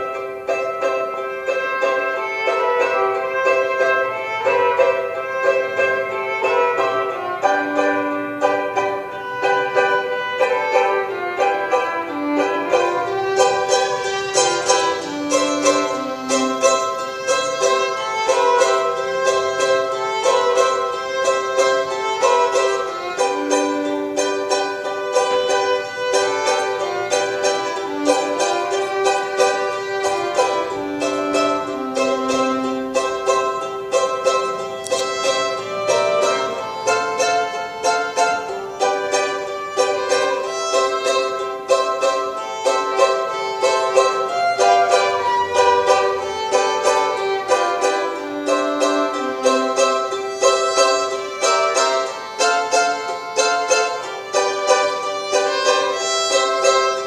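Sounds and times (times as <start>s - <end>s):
small plucked string instrument: 0.0s - 57.0s
violin playing long notes: 0.0s - 57.0s.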